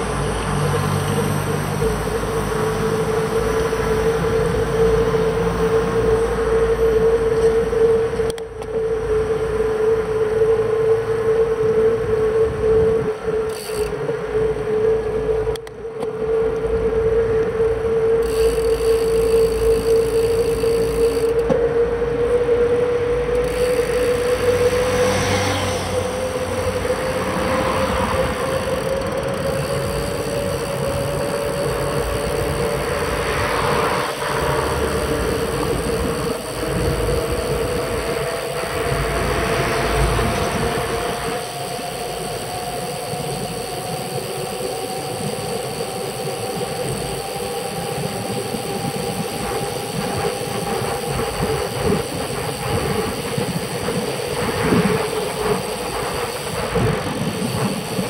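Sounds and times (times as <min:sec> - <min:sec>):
bicycle tyres rolling on asphalt: 0:00.0 - 0:58.0
rising hum: 0:00.0 - 0:58.0.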